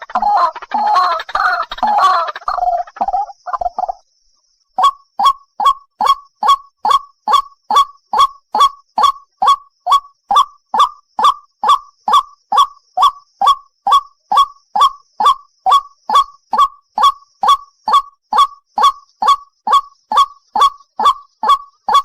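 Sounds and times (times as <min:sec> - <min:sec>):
waterhen calling: 0:00.0 - 0:04.0, 0:04.8 - 0:22.0.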